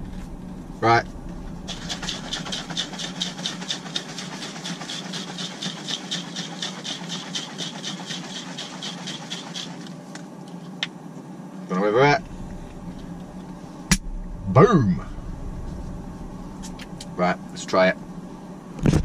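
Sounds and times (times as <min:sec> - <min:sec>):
steady low hum: 0:00.0 - 0:07.6, 0:09.3 - 0:19.0.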